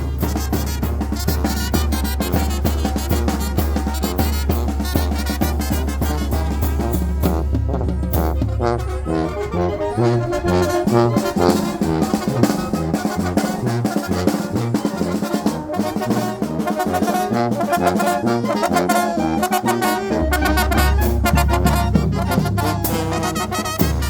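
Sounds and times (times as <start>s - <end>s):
wind band playing lively tune: 0.0s - 24.0s.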